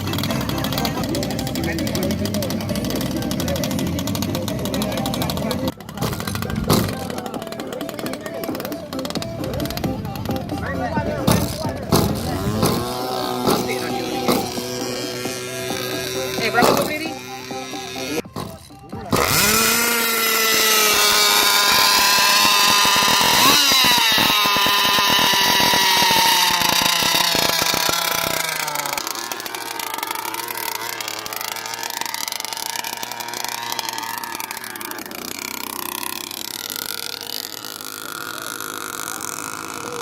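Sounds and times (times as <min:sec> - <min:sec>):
two-stroke boat engine running: 0:00.0 - 0:40.0.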